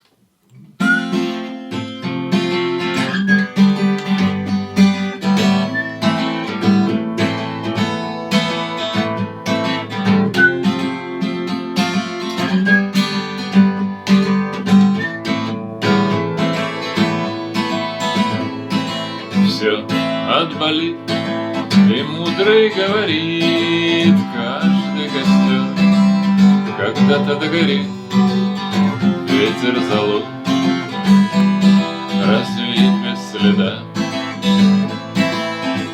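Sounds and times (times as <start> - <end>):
acoustic guitar playing: 0.5 - 35.9.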